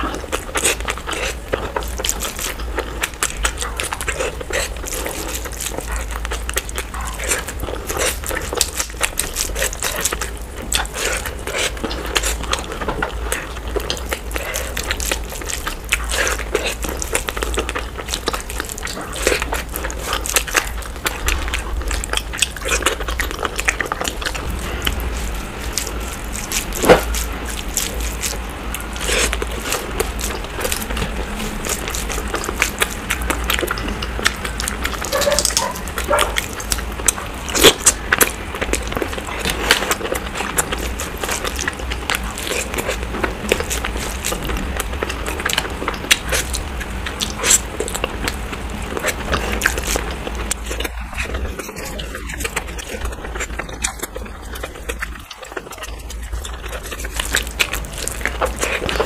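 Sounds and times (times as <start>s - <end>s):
hands squishing rice: 0.0s - 59.0s
wet chewing and smacking: 0.0s - 59.0s.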